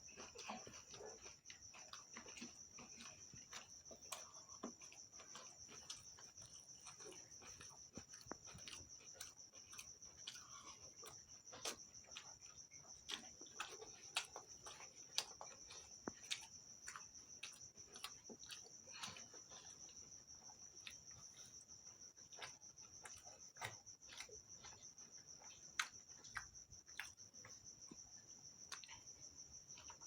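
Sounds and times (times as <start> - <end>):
chewing and wet mouth clicks: 0.1 - 30.0.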